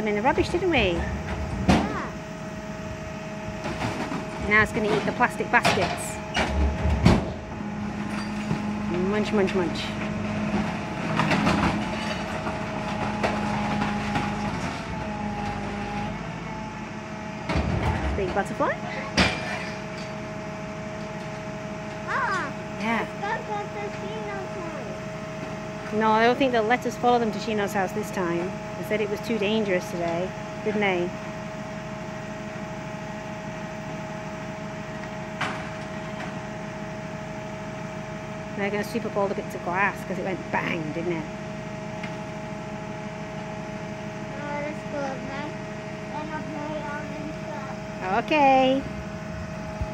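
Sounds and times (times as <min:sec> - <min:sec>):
garbage truck engine drone: 0:00.0 - 0:49.9.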